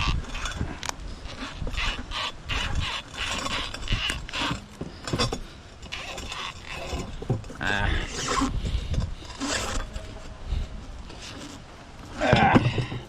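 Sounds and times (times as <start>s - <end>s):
metal parts scraping and clinking: 0.0s - 13.0s.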